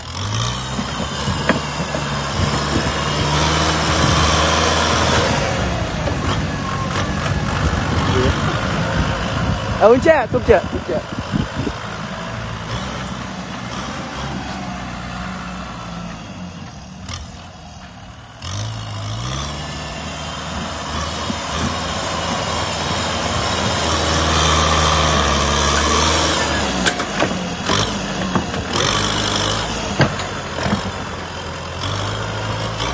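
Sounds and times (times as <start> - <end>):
tractor diesel engine revving: 0.0 - 32.9.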